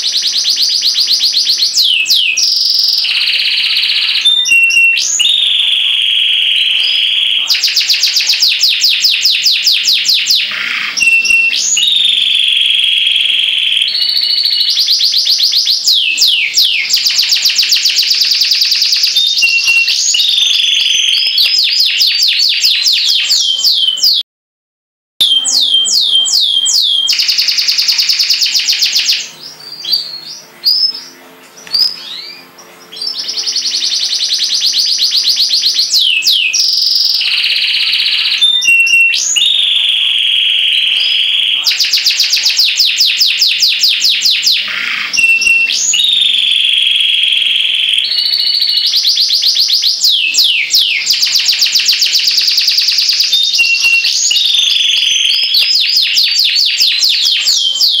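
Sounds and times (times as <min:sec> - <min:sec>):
canary singing trills: 0:00.0 - 0:24.2, 0:25.2 - 0:58.0.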